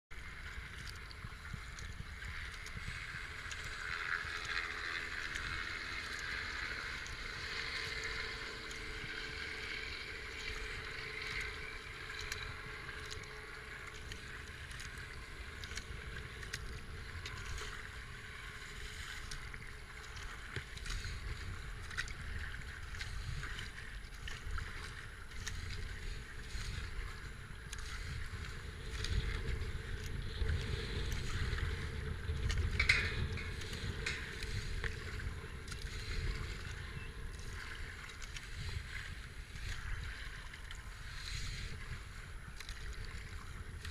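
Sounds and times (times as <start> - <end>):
paddle splashing water: 0.1 - 43.9
water washing along hull: 0.1 - 43.9
wind rumble on microphone: 0.1 - 43.9.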